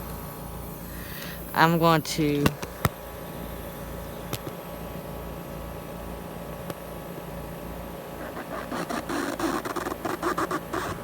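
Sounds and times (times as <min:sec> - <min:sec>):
heat pump fan and compressor humming: 0:00.0 - 0:11.0.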